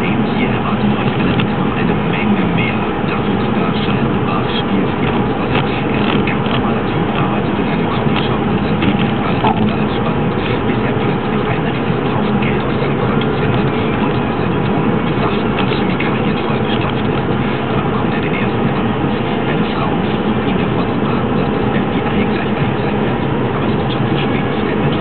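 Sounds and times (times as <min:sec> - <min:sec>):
car road noise in rain: 0:00.0 - 0:25.0.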